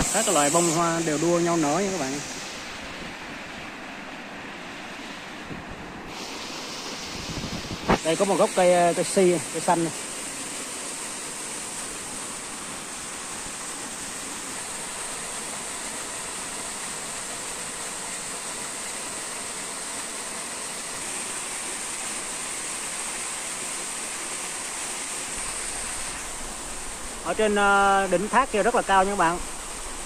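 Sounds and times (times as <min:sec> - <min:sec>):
small waterfall splashing: 0:00.0 - 0:30.0.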